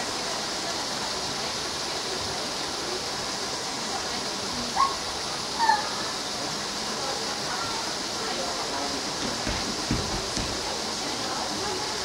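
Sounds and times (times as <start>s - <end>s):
rushing hiss: 0.0s - 12.0s.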